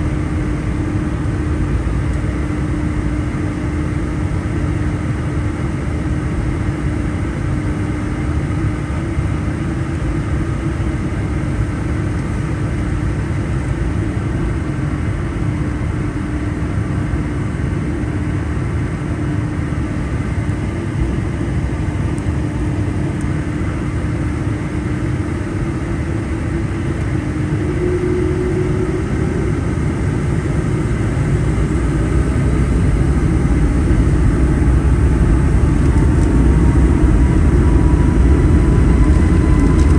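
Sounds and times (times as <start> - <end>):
engine whine: 0.0 - 39.9
jet engines humming: 0.0 - 39.9.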